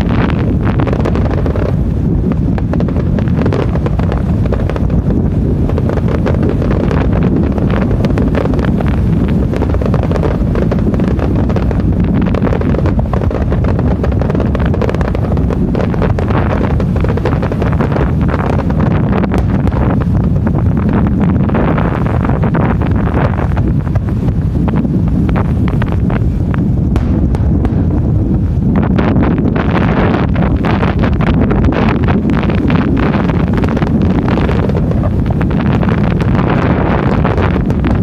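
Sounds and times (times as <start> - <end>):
fireworks popping and crackling: 0.0 - 38.0
wind buffeting microphone: 0.0 - 38.0.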